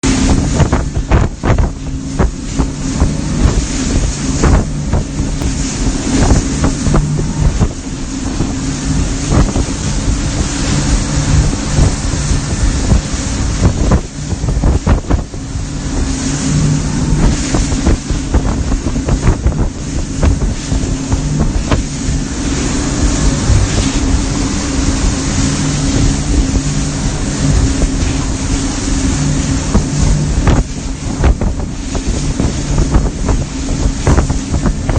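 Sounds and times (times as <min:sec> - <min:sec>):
motorboat engine running: 0:00.0 - 0:34.9
wind noise on microphone: 0:00.0 - 0:34.9.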